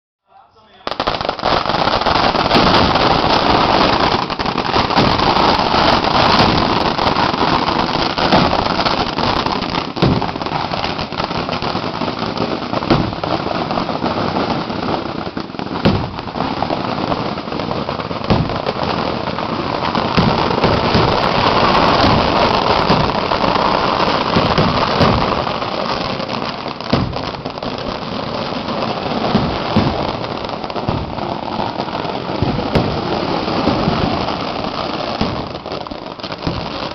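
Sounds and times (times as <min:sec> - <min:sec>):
firecrackers crackling: 0:00.3 - 0:36.9
loud firework bangs: 0:00.7 - 0:36.9.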